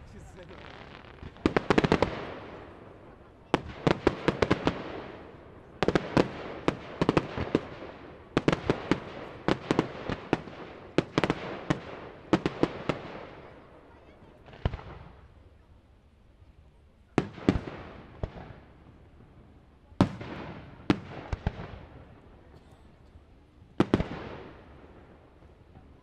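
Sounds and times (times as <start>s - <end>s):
fireworks bangs and crackles: 0.0s - 15.6s, 17.1s - 26.0s
echo of fireworks: 0.0s - 26.0s.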